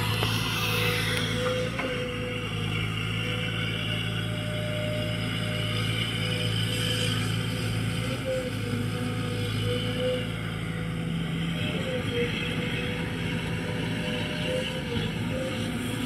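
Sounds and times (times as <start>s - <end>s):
excavator diesel engine running: 0.0s - 16.0s
wavering high whine: 0.0s - 16.0s.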